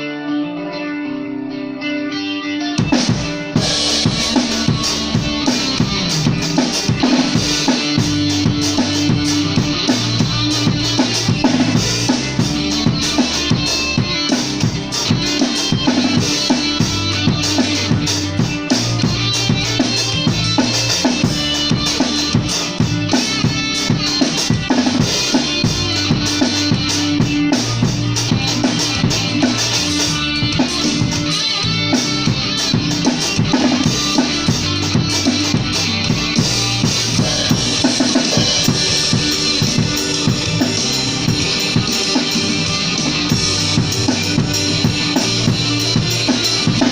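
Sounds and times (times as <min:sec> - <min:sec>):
drum kit beat: 0:02.8 - 0:46.9
bass line: 0:02.9 - 0:46.9.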